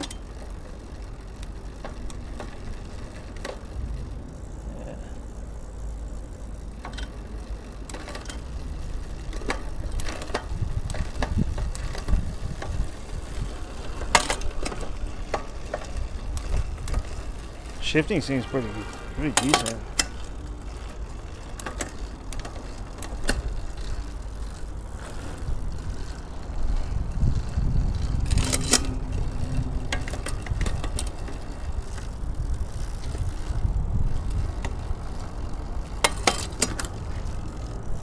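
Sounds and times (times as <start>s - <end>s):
bicycle drivetrain rumbling: 0.0s - 38.0s
gear shifting clicks: 0.0s - 38.0s.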